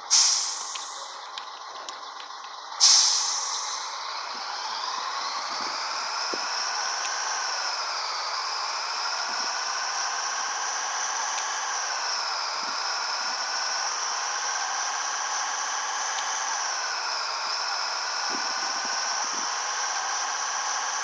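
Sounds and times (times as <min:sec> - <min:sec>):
low engine rumble: 0:00.0 - 0:21.0
truck high-pitched whine: 0:00.0 - 0:21.0.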